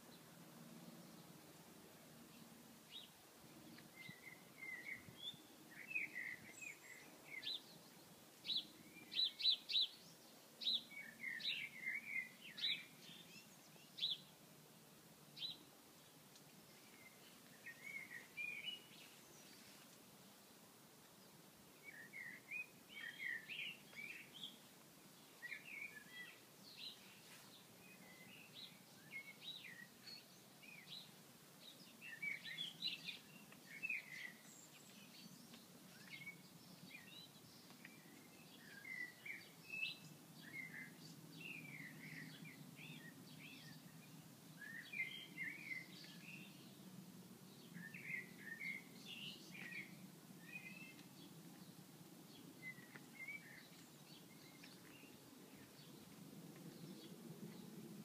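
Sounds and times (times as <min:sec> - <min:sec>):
small birds singing: 0:00.0 - 0:58.0.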